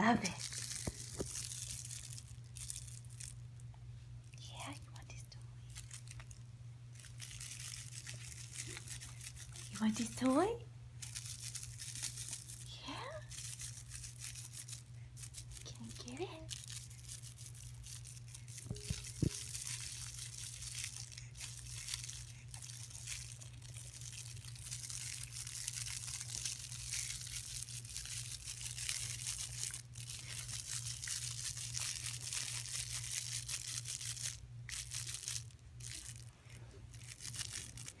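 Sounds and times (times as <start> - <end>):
crinkle toy rustling: 0.0 - 38.0.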